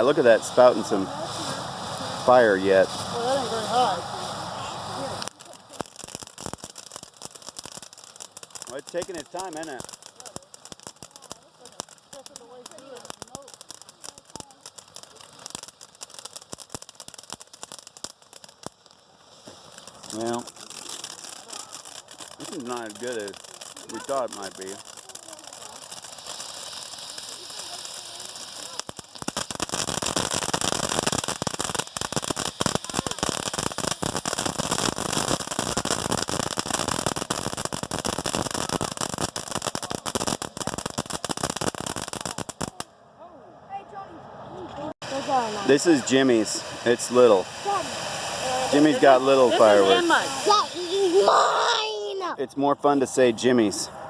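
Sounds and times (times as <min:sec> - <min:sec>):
fountain firework crackling: 0:00.0 - 0:42.9, 0:43.7 - 0:54.0.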